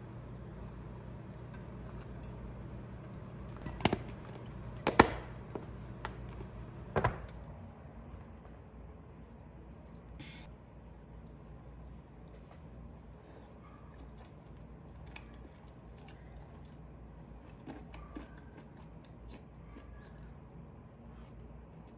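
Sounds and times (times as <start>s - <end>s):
steady low hum: 0.0s - 19.8s.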